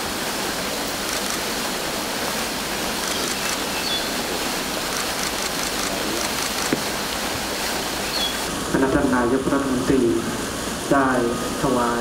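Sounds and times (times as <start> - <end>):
fountain jets splashing: 0.0 - 12.0.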